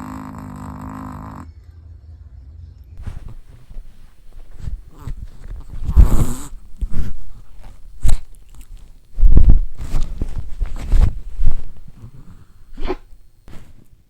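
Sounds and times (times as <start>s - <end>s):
dog snoring and snuffling: 0.0s - 1.5s, 3.0s - 14.0s.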